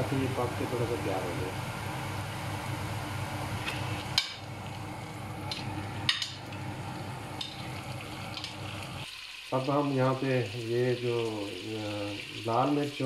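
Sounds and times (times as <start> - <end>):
chicken frying in a pot: 0.0 - 13.0.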